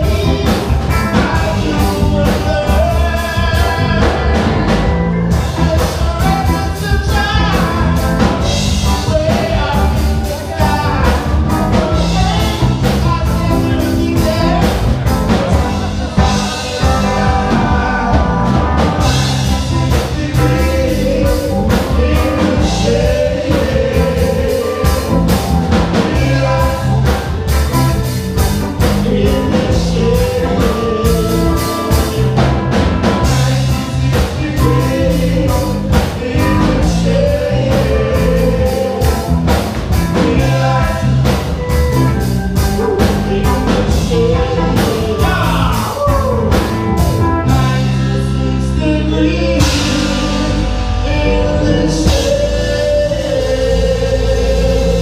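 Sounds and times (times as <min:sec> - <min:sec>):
person singing into a microphone: 0:00.0 - 0:27.5, 0:28.8 - 0:42.0, 0:42.6 - 0:55.0
drum kit: 0:00.0 - 0:55.0
electric guitar: 0:00.0 - 0:55.0
keyboard: 0:00.0 - 0:55.0.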